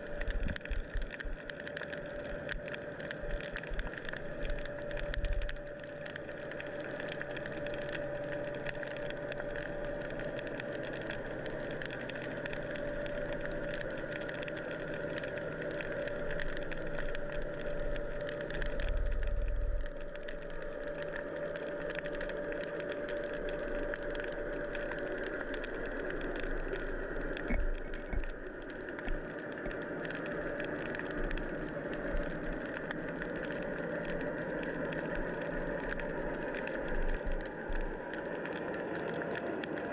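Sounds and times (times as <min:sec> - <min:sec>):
crackling hiss: 0:00.0 - 0:39.9
underwater motor hum: 0:00.0 - 0:39.9.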